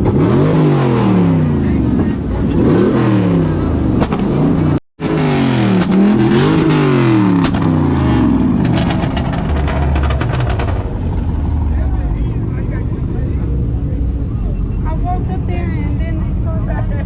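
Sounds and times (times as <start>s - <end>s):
exhaust crackles: 0.0s - 16.6s
car engines revving hard: 0.0s - 17.0s.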